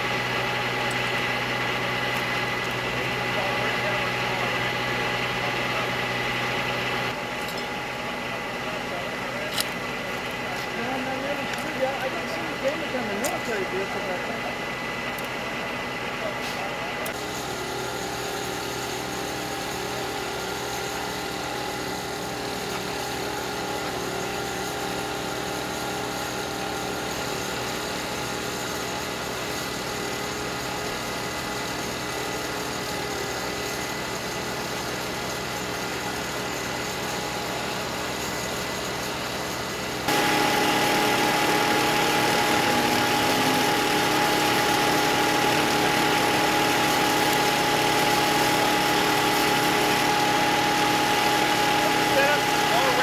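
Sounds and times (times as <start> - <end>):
engines idling: 0.0 - 53.0.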